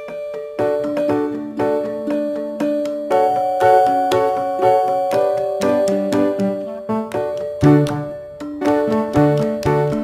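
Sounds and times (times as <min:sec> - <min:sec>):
keyboard melody over chords: 0:00.0 - 0:10.0.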